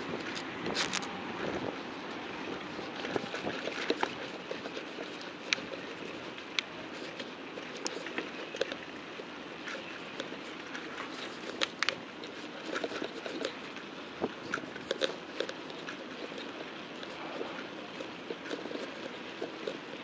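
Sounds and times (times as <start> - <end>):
bicycle rattling over road: 0.0 - 20.0.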